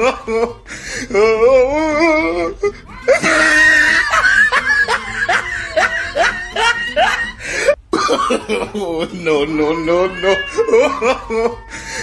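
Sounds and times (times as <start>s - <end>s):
person laughing hard: 0.0s - 12.0s.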